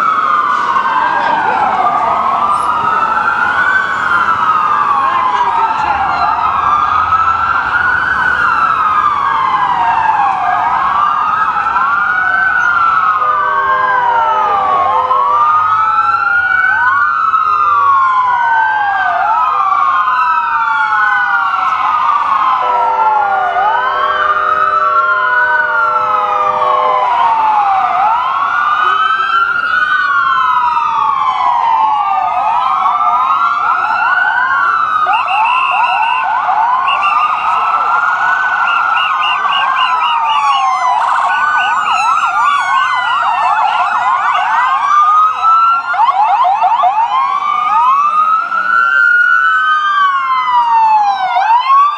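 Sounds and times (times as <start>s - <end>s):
ambulance sirens wailing: 0.0s - 51.9s.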